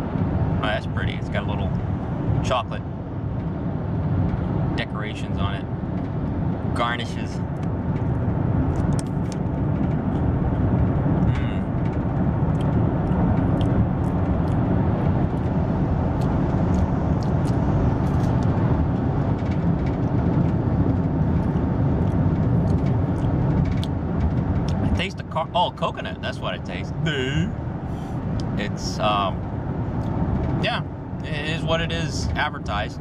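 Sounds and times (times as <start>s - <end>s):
car cabin road rumble: 0.0s - 33.0s.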